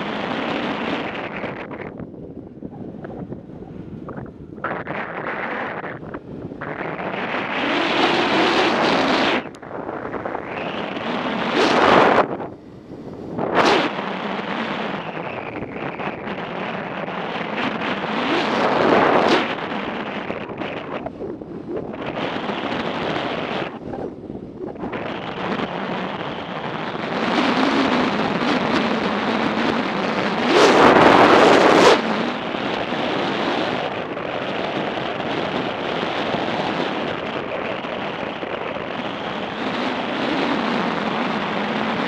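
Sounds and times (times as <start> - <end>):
low motorcycle rumble: 0.0 - 42.0
wind rushing over microphone: 0.0 - 42.0.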